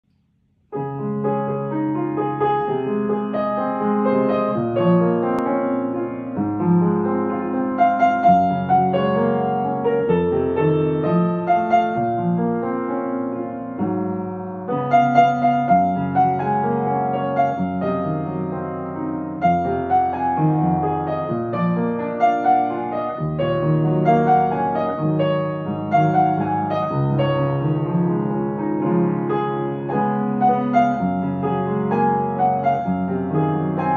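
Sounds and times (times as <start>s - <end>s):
solo piano piece: 0.6s - 33.9s.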